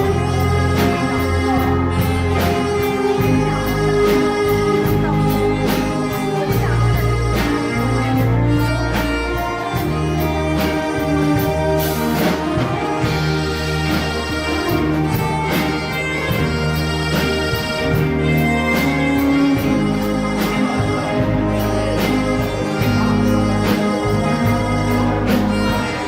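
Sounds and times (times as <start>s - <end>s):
drums with cymbal strokes: 0.0s - 26.0s
held bass notes: 0.0s - 26.0s
sustained melody line: 0.0s - 26.0s.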